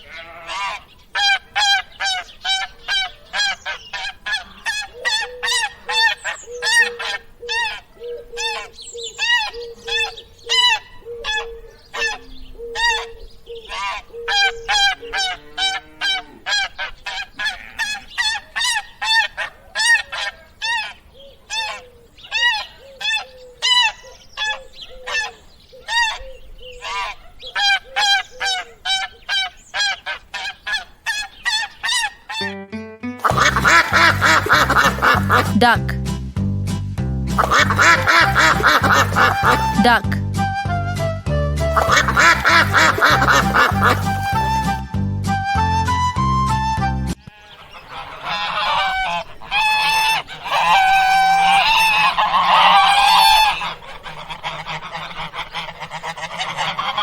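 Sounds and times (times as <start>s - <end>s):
geese honking: 0.0s - 12.2s, 12.8s - 26.2s, 26.8s - 36.0s, 37.3s - 44.9s, 47.1s - 57.0s.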